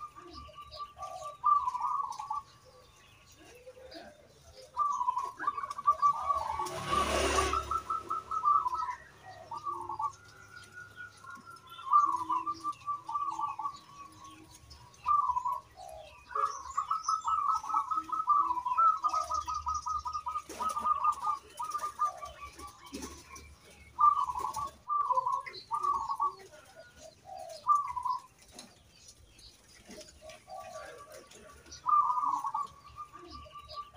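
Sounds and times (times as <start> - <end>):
dove cooing song: 0.0 - 33.9.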